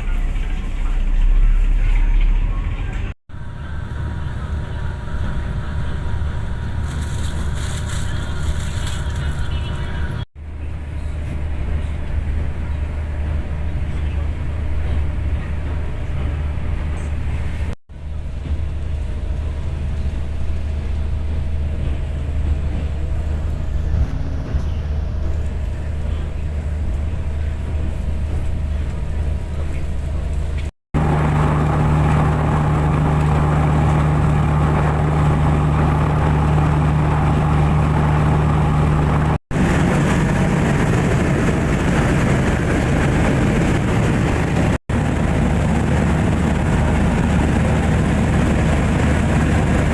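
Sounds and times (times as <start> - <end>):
ferry engines droning: 0.0 - 49.9.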